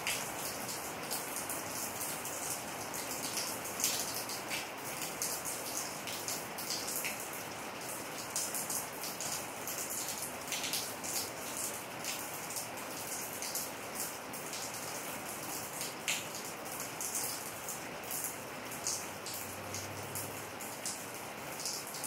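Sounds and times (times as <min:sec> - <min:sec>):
heavy rain on pavement: 0:00.0 - 0:22.0.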